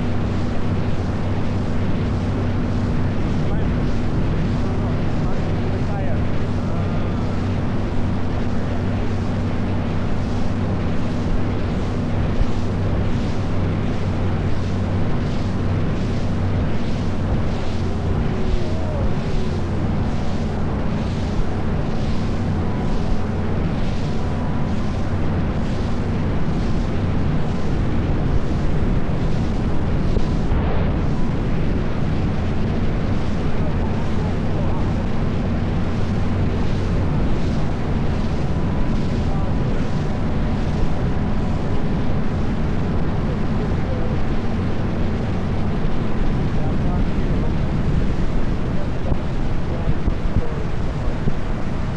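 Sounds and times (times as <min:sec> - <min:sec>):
boat engine running: 0:00.0 - 0:51.9
pulsing rushing noise: 0:00.0 - 0:51.9.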